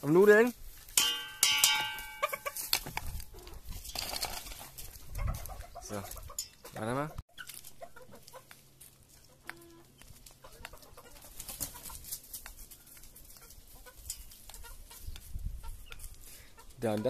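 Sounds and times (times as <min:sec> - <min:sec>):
chickens clucking: 0:02.0 - 0:03.9, 0:04.5 - 0:17.0.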